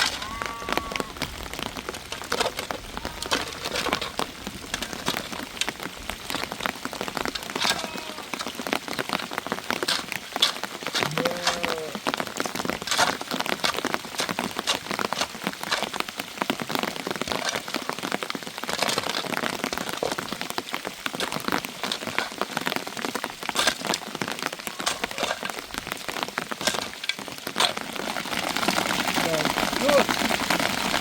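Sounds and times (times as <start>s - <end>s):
heavy rain on a hard surface: 0.0s - 31.0s.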